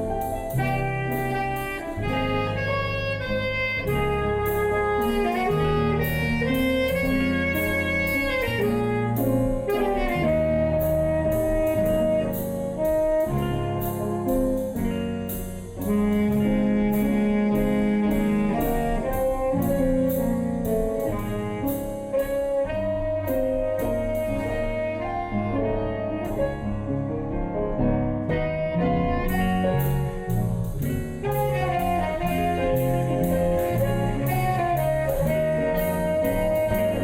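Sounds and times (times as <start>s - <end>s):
instrumental music with steady beat: 0.0s - 37.0s.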